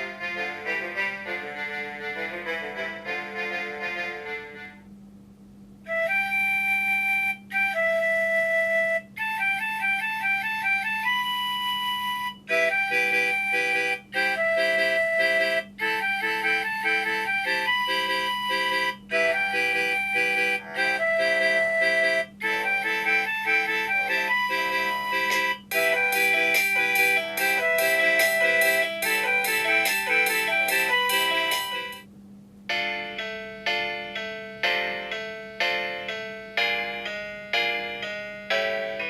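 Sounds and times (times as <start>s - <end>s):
synthesized ringtone melody: 0.0s - 4.7s, 9.4s - 32.0s, 32.7s - 39.0s.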